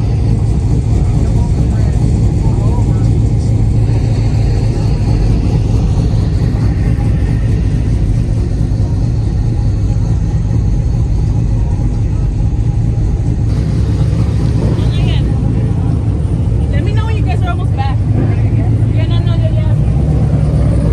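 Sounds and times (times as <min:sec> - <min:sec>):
car engines rumbling: 0:00.0 - 0:20.9
voices: 0:00.0 - 0:20.9.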